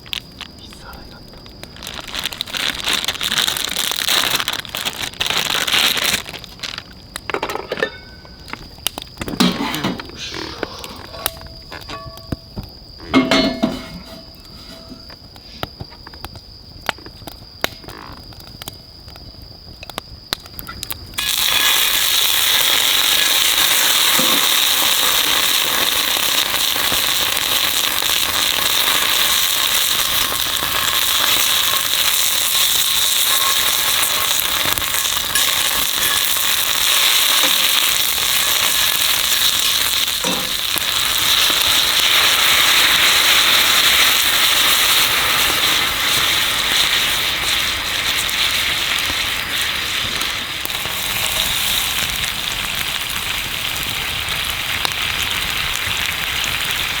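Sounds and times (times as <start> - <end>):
steak sizzling over fire: 0.0 - 57.0.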